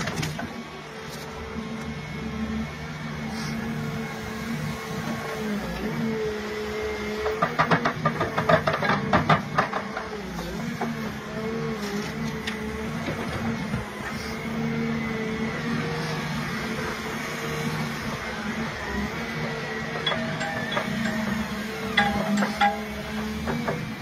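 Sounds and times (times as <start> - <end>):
excavator engine whining: 0.0 - 24.0.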